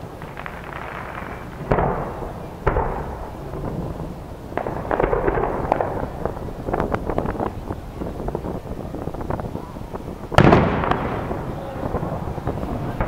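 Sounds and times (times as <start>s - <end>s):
firework booms with rumbling echo: 0.0s - 13.0s
firework crackling pops: 0.0s - 13.0s.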